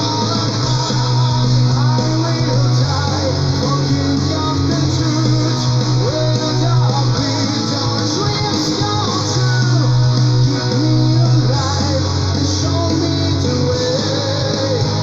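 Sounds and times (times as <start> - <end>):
melodic metal music: 0.0 - 15.0.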